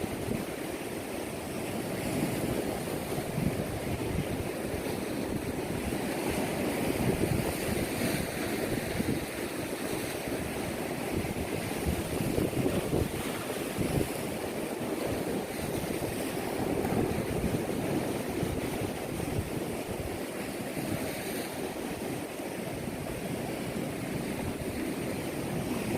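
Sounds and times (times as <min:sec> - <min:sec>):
ocean waves washing in: 0:00.0 - 0:25.9
wind buffeting microphone: 0:00.0 - 0:25.9.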